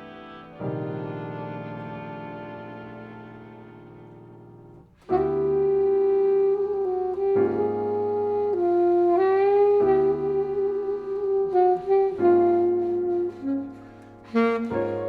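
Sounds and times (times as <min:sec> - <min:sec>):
alto saxophone sustained notes: 0:00.0 - 0:15.0
piano chords: 0:00.0 - 0:15.0.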